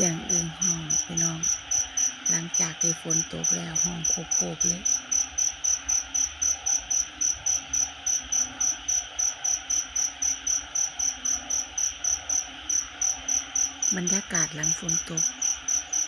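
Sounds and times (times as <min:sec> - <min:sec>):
cricket chirping: 0:00.0 - 0:16.0
frogs calling: 0:00.0 - 0:16.0
hiss of insects: 0:00.0 - 0:16.0.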